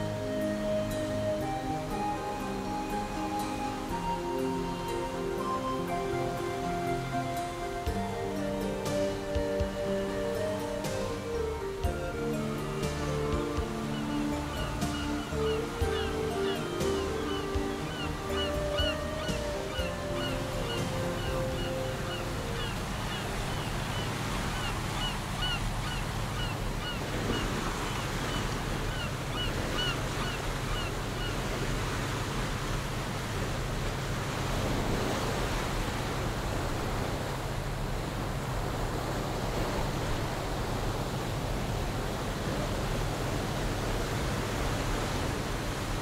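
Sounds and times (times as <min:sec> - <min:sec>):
water rushing in boat wake: 0:00.0 - 0:46.0
wind: 0:00.0 - 0:46.0.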